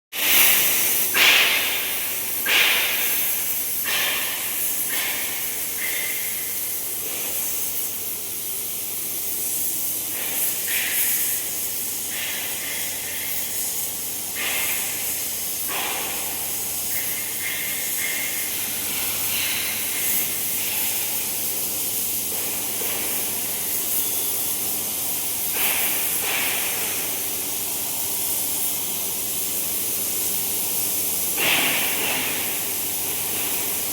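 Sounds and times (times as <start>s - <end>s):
cutting torch hissing: 0.2s - 33.9s.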